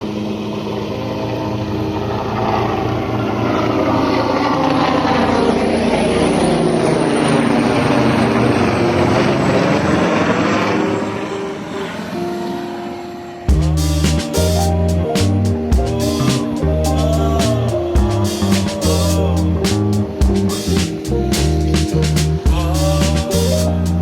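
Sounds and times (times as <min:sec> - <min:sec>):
aircraft flying overhead: 0:00.0 - 0:24.0.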